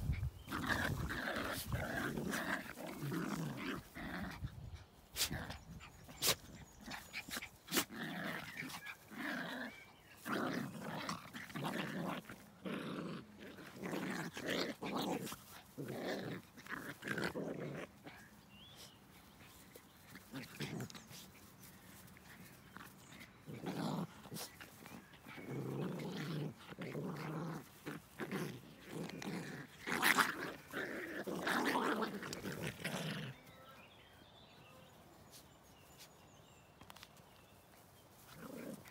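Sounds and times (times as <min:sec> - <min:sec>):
puppies growling and snarling: 0:00.0 - 0:33.7, 0:36.4 - 0:38.9.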